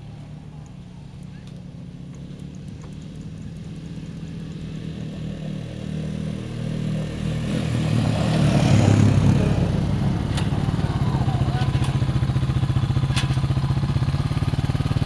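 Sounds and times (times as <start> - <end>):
quad bike engines running: 0.0 - 15.0.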